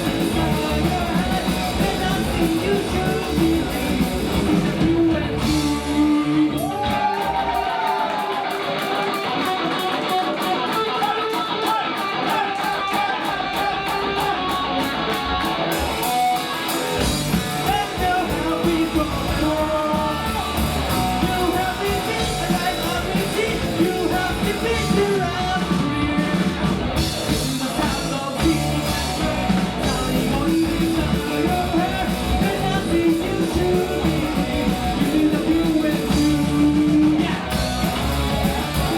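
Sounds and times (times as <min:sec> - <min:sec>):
person singing: 0:00.0 - 0:14.9, 0:17.3 - 0:26.6, 0:27.3 - 0:38.9
rock song with electric guitar: 0:00.0 - 0:38.9.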